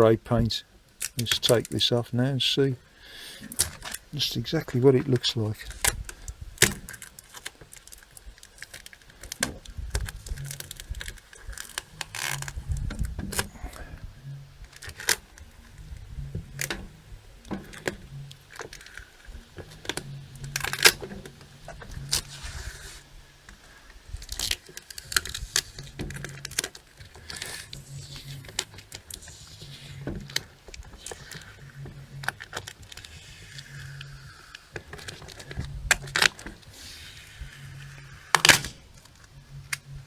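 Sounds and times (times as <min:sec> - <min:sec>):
masking tape peeling and tearing: 0:03.4 - 0:40.0.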